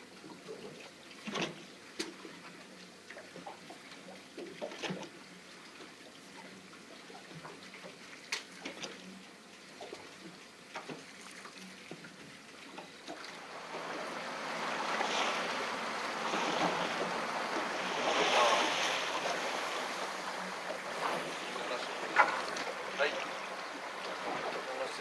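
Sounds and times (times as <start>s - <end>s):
water and wind rushing: 0.0s - 25.0s.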